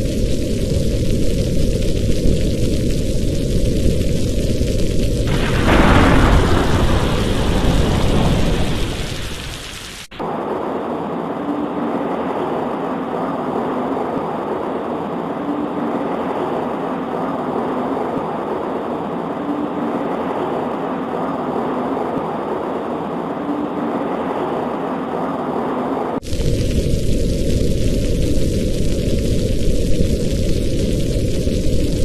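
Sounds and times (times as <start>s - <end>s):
rain on a window: 0.0s - 25.4s, 26.2s - 32.0s.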